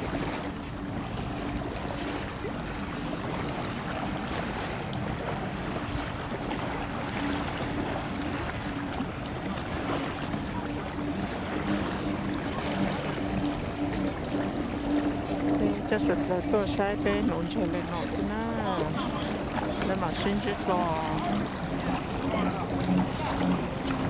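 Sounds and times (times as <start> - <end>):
low steady hum: 0.0 - 24.0
water noise: 0.0 - 24.0.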